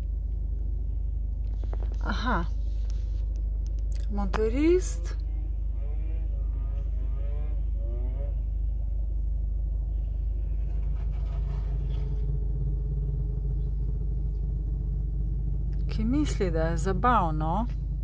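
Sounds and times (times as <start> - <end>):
motorcycle engine running: 0.0 - 18.0
steady low rumble: 0.0 - 18.0.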